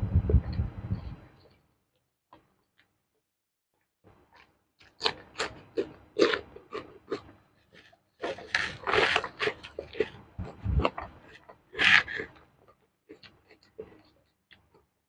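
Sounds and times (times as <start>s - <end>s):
chewing and crunching food: 1.4s - 3.2s, 3.8s - 15.0s.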